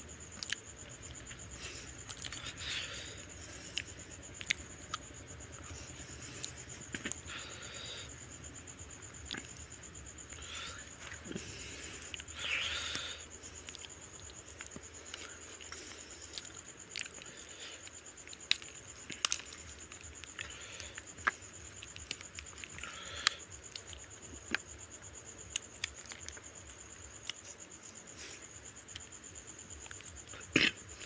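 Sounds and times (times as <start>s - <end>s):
faint high-pitched whine: 0.0s - 31.0s
wet chewing and smacking: 0.2s - 8.1s, 8.8s - 24.8s, 25.4s - 27.6s.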